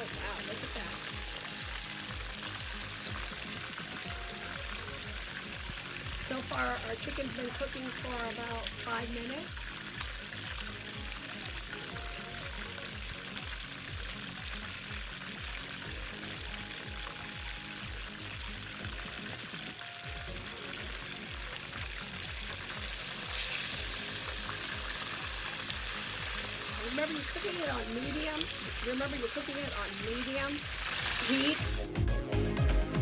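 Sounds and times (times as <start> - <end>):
chicken frying in hot oil: 0.0 - 31.8
background music with steady beat: 0.0 - 33.0.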